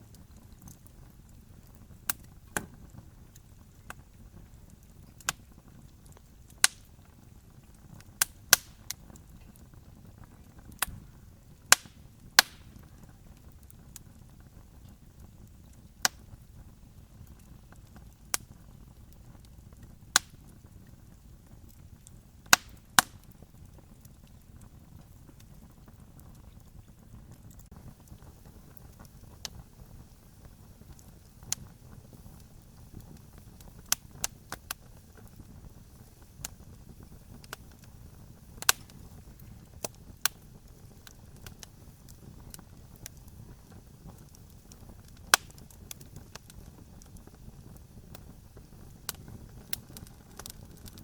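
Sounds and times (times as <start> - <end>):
campfire pops and snaps: 0.0 - 51.0
low rumble of burning fire: 0.0 - 51.0.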